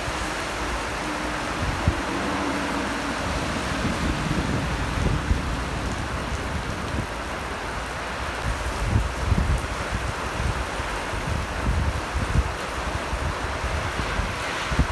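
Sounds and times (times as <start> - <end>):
heavy rain falling: 0.0 - 14.9
wind buffeting microphone: 0.0 - 14.9.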